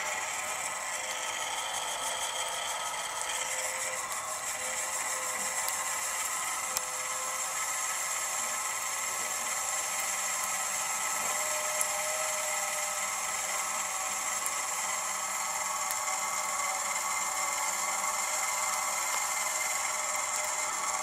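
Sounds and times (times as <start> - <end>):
gear motor whirring: 0.0 - 21.0.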